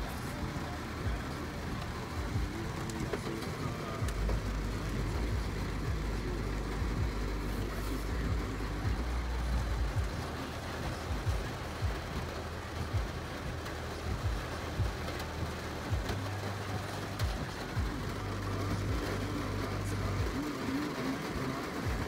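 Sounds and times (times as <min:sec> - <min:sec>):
car cabin low rumble: 0:00.0 - 0:22.0
heavy rain hitting windows: 0:00.0 - 0:22.0.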